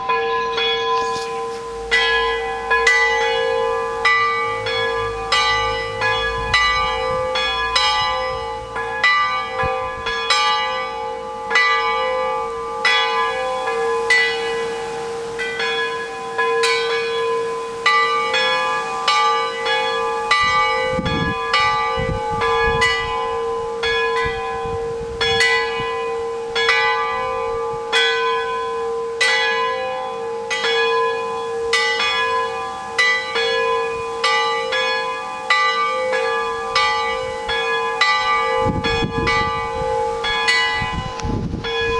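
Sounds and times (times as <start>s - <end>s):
church bells ringing: 0.0s - 41.9s.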